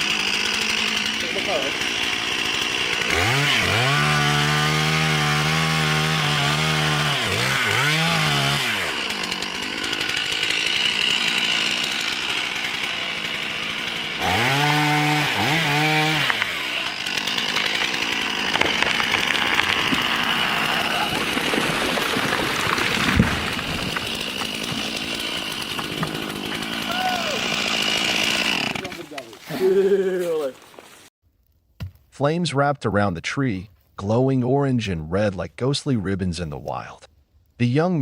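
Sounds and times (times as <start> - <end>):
chainsaw cutting tree trunk: 0.0 - 31.1.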